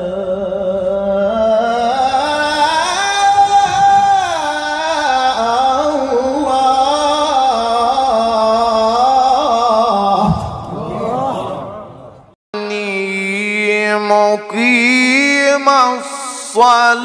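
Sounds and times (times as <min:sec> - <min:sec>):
man reciting in melismatic chant: 0:00.0 - 0:17.0.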